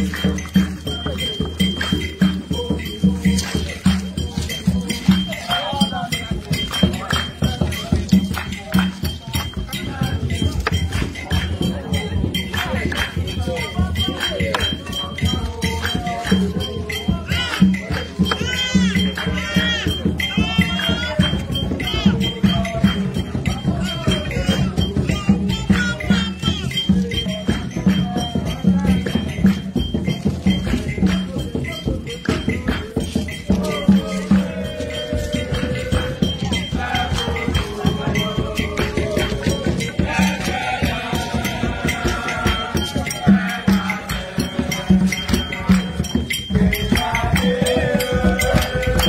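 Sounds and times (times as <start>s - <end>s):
low drum beat: 0.0s - 49.0s
music with busy percussion: 0.0s - 49.0s
voices chanting: 0.0s - 49.0s.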